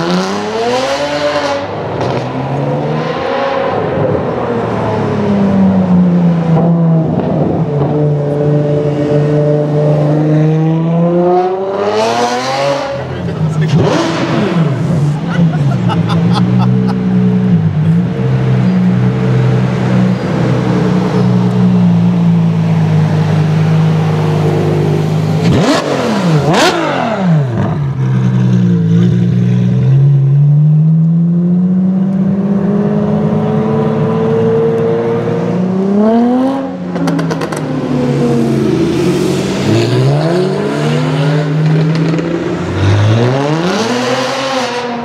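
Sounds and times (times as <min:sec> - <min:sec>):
car engine droning and revving: 0:00.0 - 0:45.0.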